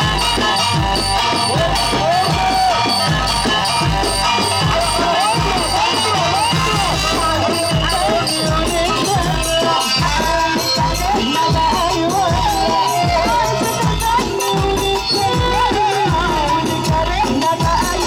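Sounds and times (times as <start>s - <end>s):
ornamented melody line: 0.0s - 18.0s
pounding percussion beat: 0.0s - 18.0s.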